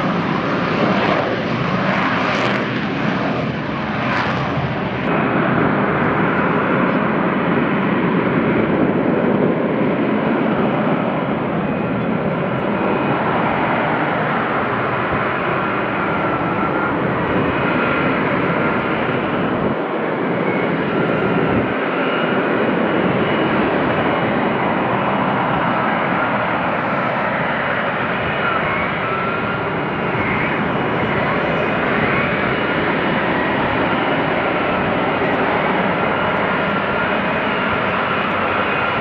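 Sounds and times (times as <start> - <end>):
jet engine roaring: 0.0 - 39.0.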